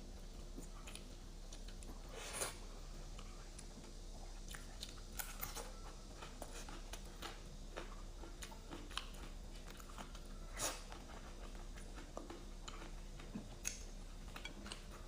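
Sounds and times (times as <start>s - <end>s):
person chewing food: 0.2s - 15.0s.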